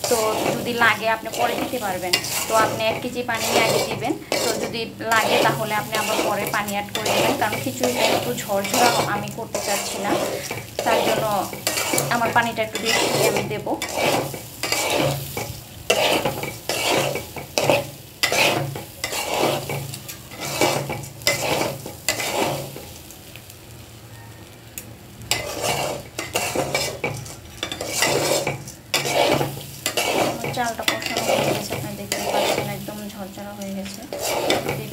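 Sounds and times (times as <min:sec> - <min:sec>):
spatula scraping rice in metal pot: 0:00.0 - 0:22.9, 0:25.3 - 0:34.9.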